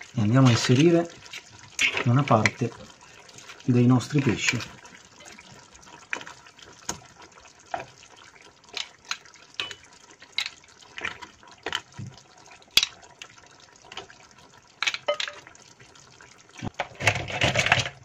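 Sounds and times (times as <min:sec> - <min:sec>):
faint liquid sounds: 0:00.0 - 0:18.0.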